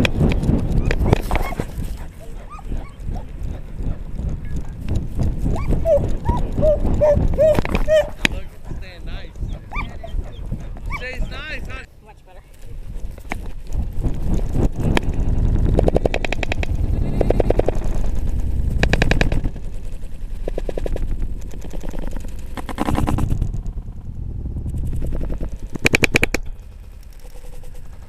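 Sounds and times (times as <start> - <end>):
camera rattling on harness: 0.0 - 24.0, 24.6 - 28.0.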